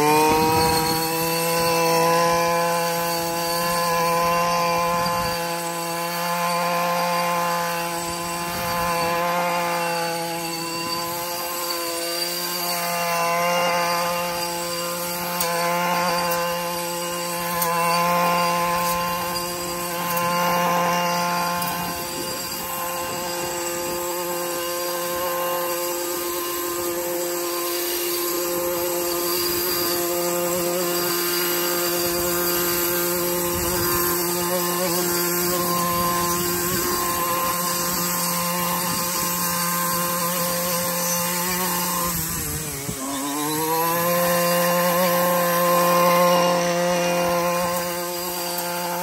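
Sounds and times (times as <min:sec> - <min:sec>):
brushcutter engine running: 0:00.0 - 0:49.0.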